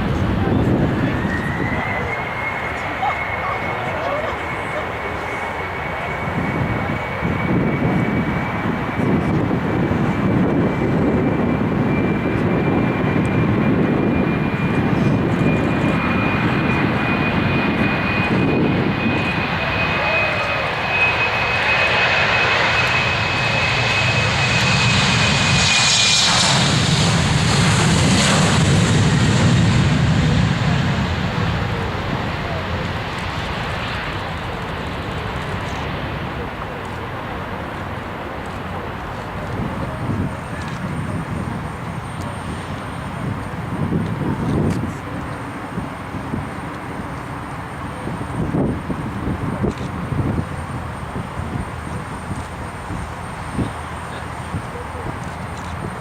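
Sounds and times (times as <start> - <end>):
jet engine high whine: 0.0 - 56.0.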